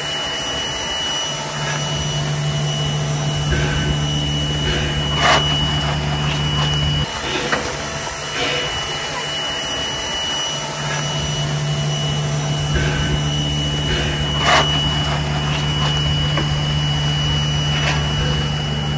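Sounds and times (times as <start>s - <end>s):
steam train hum and hiss: 0.0s - 18.9s
thin high whine: 0.0s - 18.9s.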